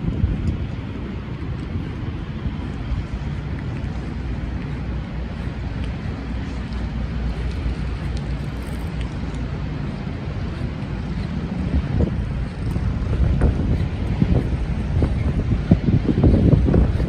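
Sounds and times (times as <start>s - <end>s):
city traffic rumble: 0.0s - 17.0s
wind on microphone: 0.0s - 17.0s.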